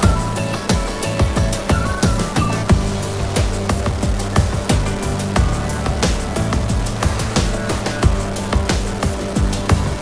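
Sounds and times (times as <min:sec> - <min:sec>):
bass line: 0:00.0 - 0:10.0
electronic music with fast drum beat: 0:00.0 - 0:10.0.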